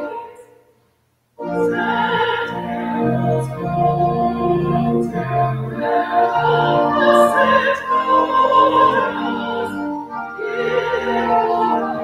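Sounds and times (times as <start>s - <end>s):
organ chords: 1.4s - 12.0s.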